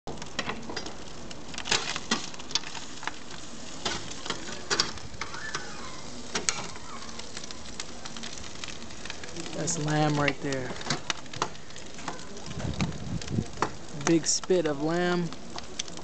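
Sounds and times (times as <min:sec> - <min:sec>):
steady background hiss: 0:00.2 - 0:16.0.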